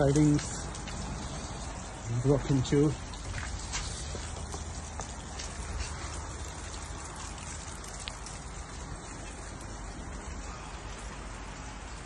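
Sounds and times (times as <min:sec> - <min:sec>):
rain pattering: 0:00.0 - 0:12.0
raindrop ticks: 0:00.0 - 0:12.0.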